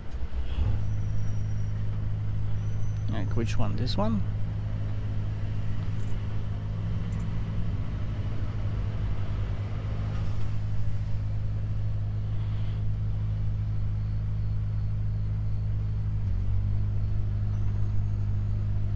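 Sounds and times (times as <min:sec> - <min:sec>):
truck diesel engine running: 0:00.0 - 0:18.9.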